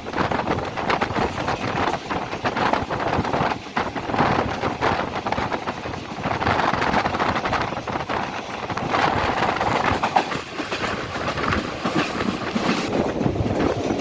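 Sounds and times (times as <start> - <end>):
passenger train clattering: 0.0 - 14.0.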